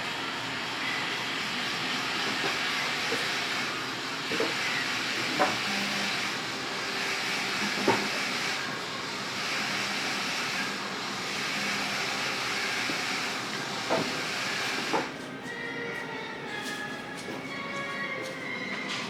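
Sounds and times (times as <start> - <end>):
cafe background hiss: 0.0 - 16.8.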